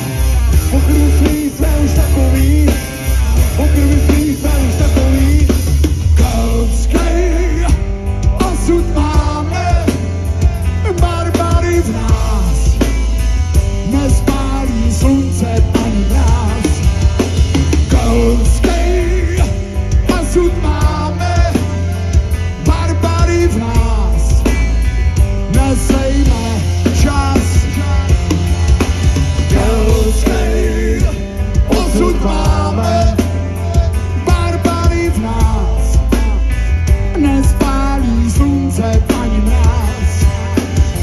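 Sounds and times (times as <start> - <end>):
man singing: 0.0 - 13.0, 13.6 - 24.8, 25.4 - 28.5, 29.4 - 36.2, 37.0 - 41.0
live rock band: 0.0 - 41.0.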